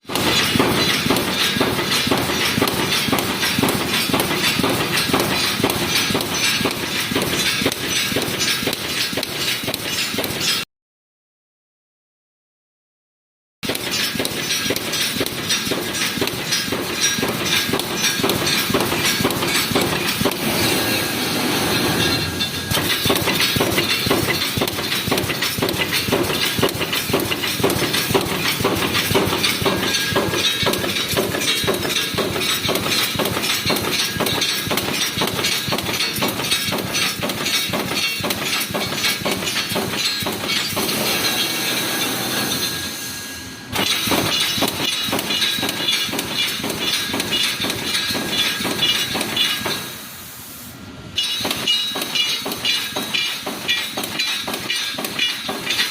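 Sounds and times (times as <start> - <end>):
welding machine rapid clatter: 0.0 - 10.6, 13.6 - 42.8, 43.7 - 49.9, 51.2 - 55.9.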